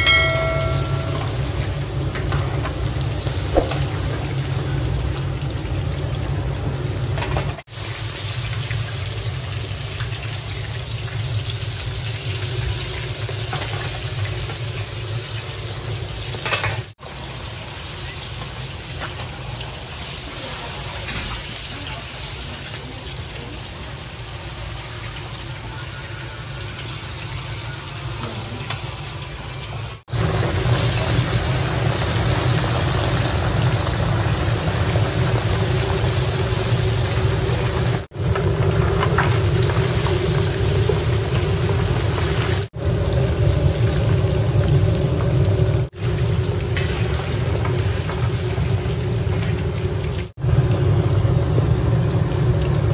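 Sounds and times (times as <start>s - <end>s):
oil sizzling while deep-frying: 0.0s - 52.9s.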